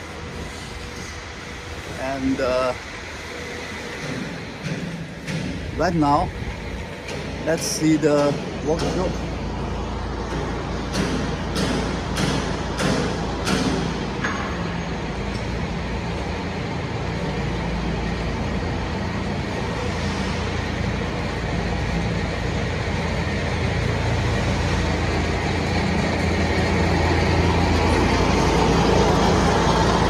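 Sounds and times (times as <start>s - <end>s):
combine harvester engine running: 0.0s - 30.0s.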